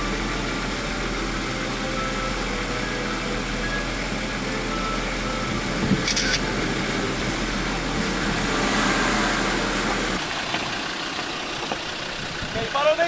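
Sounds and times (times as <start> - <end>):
four-wheel drive engine running: 0.0 - 13.0.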